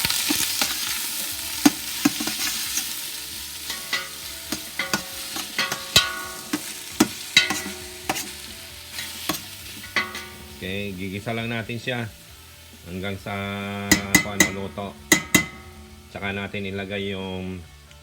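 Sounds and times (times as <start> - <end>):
utensil scraping a pan: 0.0 - 11.5, 13.8 - 16.7
onion sizzling in hot oil: 0.0 - 18.0.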